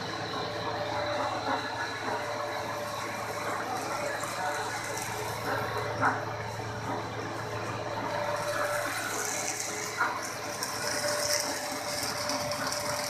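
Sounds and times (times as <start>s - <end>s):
machinery whirring: 0.0s - 13.0s.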